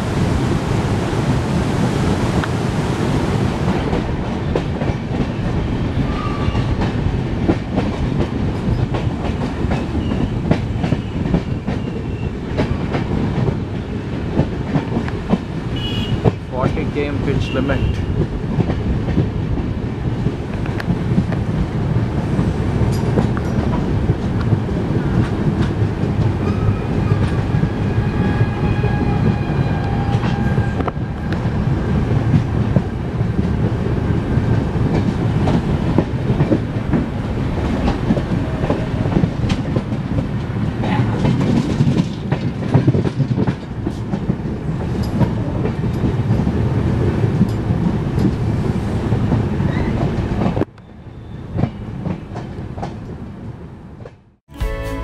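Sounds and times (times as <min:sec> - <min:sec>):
rumble of train wheels on rails: 0:00.0 - 0:54.4.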